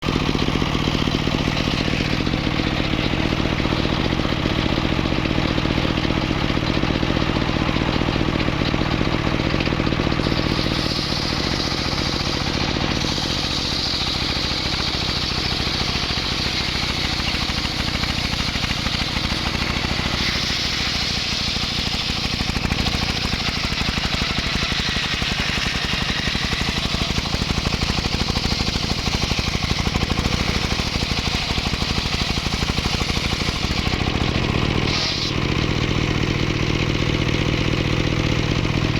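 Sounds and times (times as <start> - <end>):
engine-driven wood saw cutting: 0.0 - 38.9.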